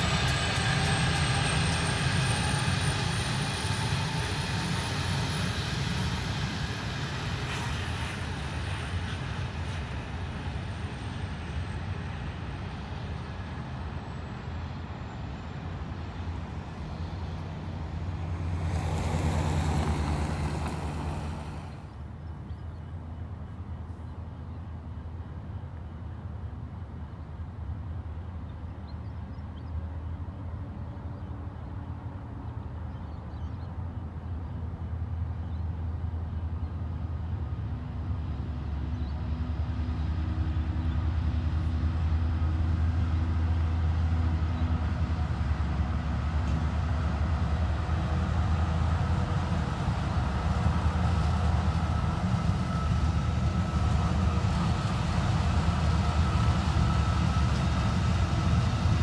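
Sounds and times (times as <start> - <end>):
diesel locomotive engine drone: 0.0 - 59.0
rail noise: 0.0 - 59.0.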